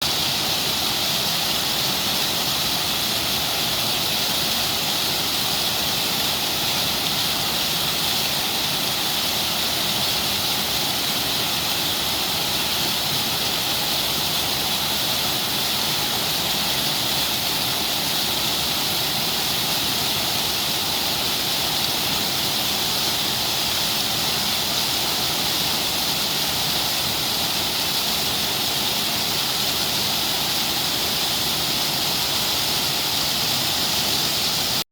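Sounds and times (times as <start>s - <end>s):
stream pouring over waterfall: 0.0s - 34.9s.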